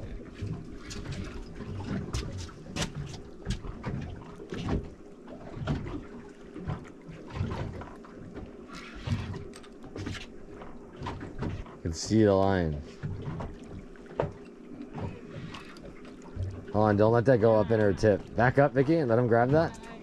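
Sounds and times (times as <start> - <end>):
water noise around boat: 0.0 - 20.0.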